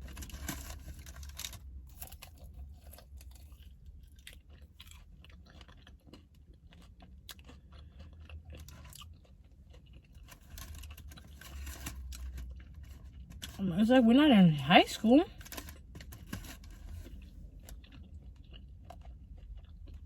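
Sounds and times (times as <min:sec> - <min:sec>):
chewing crispy chicken wings: 0:00.0 - 0:20.0.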